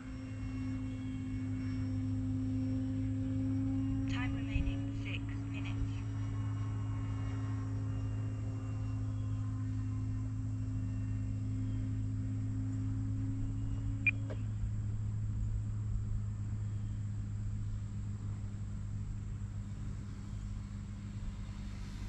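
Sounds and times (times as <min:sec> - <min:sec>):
model plane motor drone: 0:00.0 - 0:22.0.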